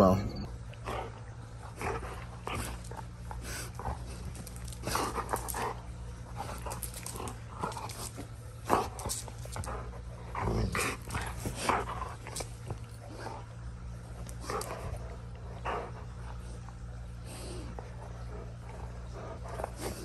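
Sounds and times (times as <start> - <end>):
steady low hum: 0.0 - 20.0
dog sniffing and breathing: 0.6 - 20.0.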